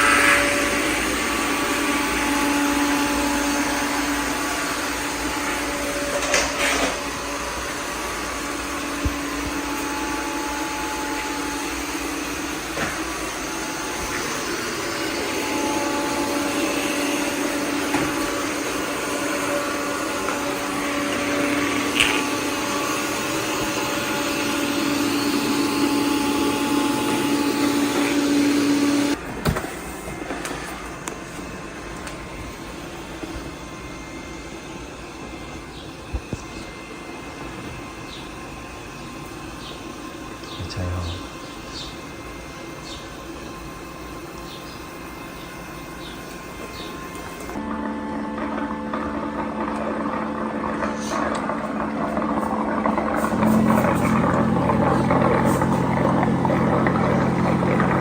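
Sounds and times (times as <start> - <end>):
robot vacuum motor hum and whine: 0.0 - 58.0.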